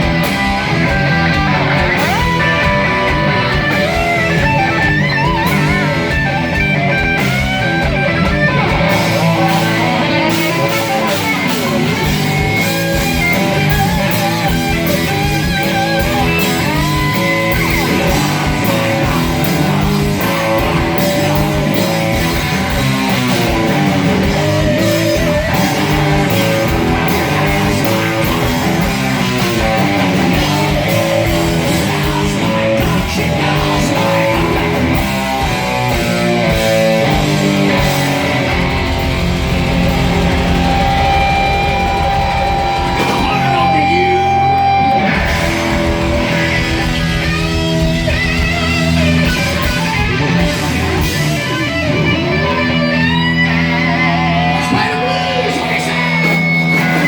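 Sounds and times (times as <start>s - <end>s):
driving drum beat: 0.0s - 57.0s
electric guitar: 0.0s - 57.0s.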